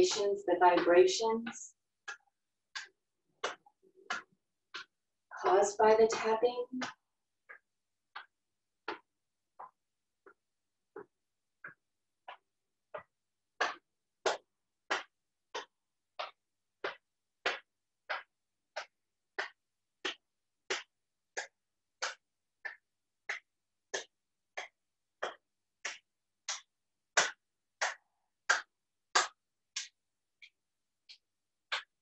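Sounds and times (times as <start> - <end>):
hand slapping body over clothing: 0.8 - 5.1, 6.0 - 32.0.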